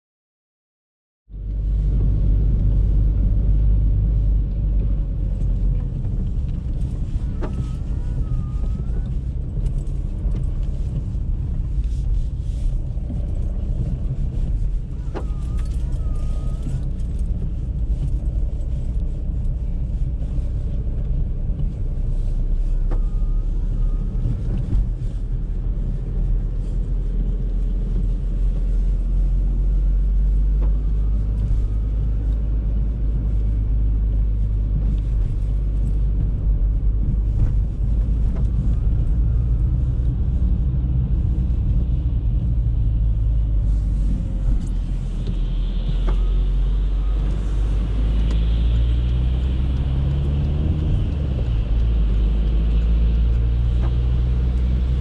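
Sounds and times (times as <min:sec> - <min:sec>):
road and engine rumble in car: 0:01.3 - 0:55.0.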